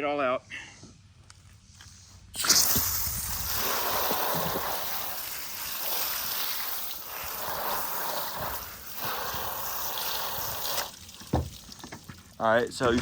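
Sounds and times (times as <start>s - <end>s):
hose water spraying on metal unit: 2.4s - 12.9s.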